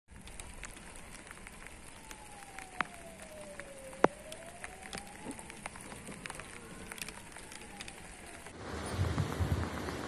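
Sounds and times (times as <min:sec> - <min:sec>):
rain with drop ticks: 0:00.1 - 0:10.0
sharp clicks: 0:00.2 - 0:08.6.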